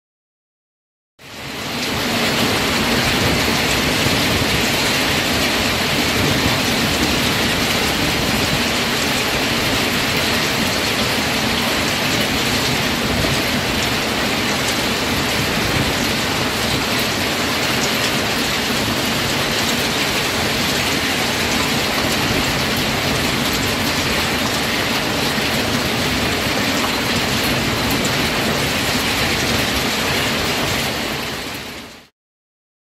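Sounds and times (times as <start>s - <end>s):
hail pattering on street and roofs: 1.2s - 32.1s.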